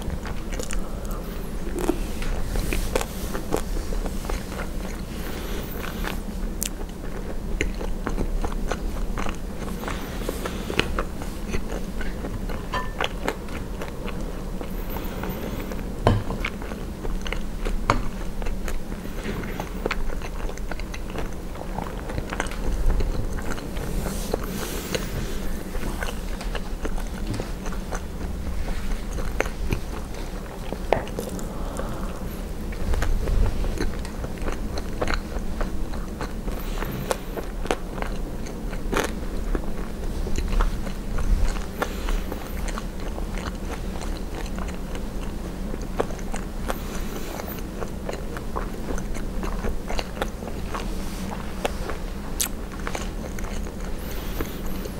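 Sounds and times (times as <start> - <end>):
close chewing and biting food: 0.0 - 54.9.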